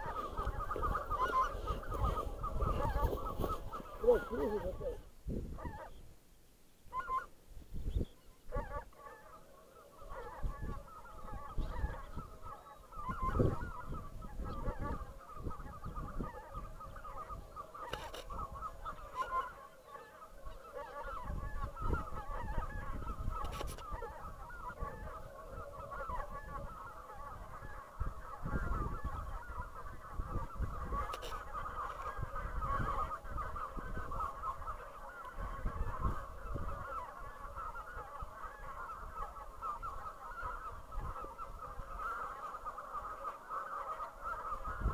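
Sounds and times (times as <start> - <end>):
geese honking: 0.0 - 6.0, 6.9 - 7.3, 8.2 - 44.9.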